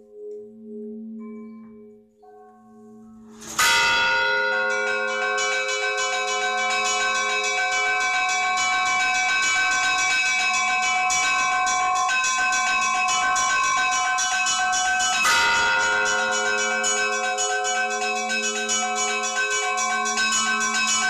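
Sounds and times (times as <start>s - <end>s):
church bells ringing: 3.4s - 21.0s.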